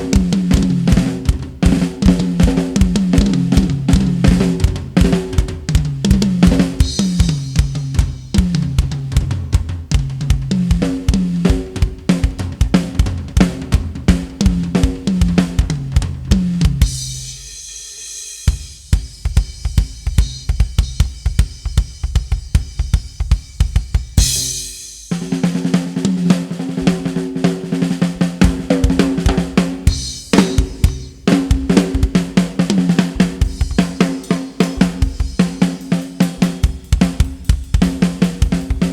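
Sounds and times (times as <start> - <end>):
drum kit beat: 0.0 - 38.9.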